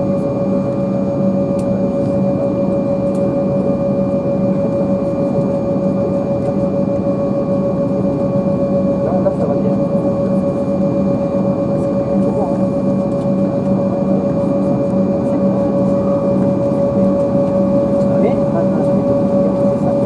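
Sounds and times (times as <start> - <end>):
airliner cabin drone with whine: 0.0 - 20.0.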